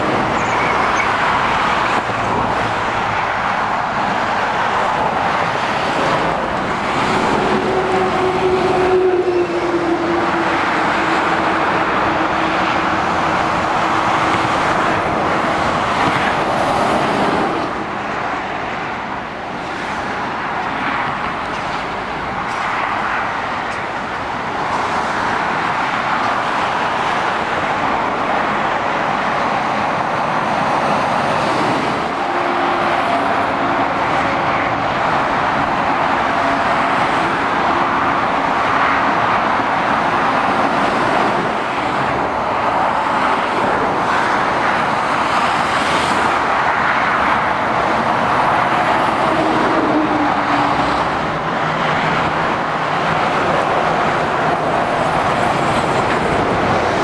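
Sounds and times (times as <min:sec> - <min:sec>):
lorries and cars passing: 0:00.0 - 0:57.0.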